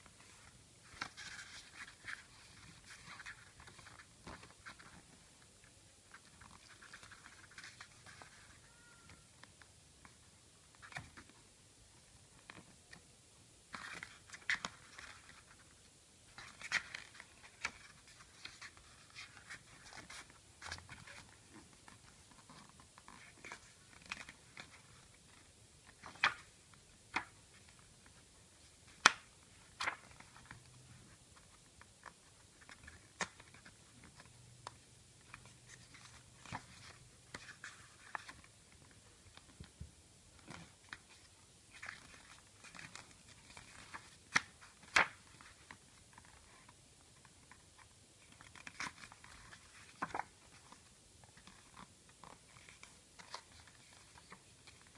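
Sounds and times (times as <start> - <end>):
paper and plastic rustling: 0.0 - 11.4, 13.7 - 54.9.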